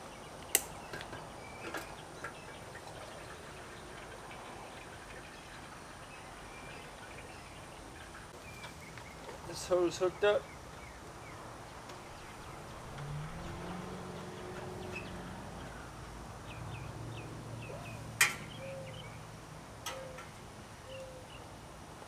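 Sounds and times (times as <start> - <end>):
small birds chirping: 0.0 - 21.8.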